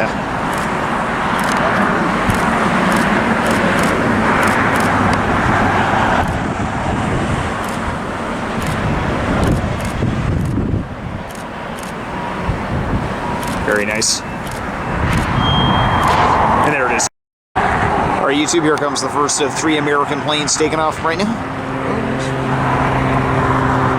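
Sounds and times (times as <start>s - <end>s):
engine roaring: 0.0s - 16.9s, 17.6s - 23.9s.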